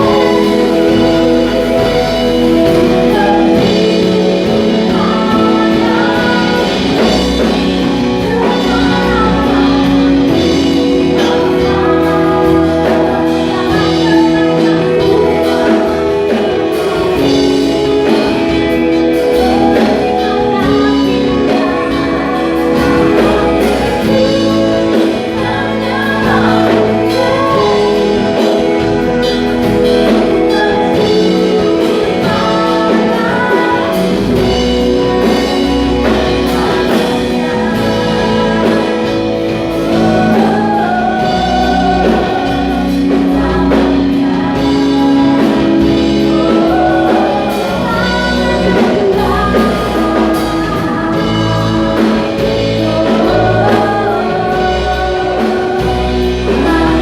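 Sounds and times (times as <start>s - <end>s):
singers singing: 0.0s - 57.0s
worship band playing: 0.0s - 57.0s.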